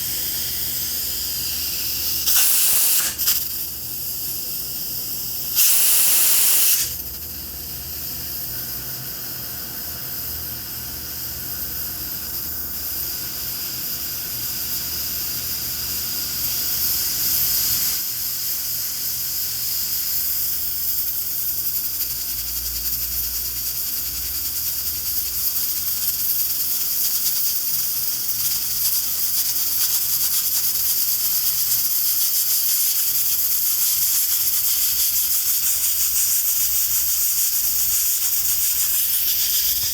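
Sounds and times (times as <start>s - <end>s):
pressure cooker steam hissing: 0.0s - 39.9s.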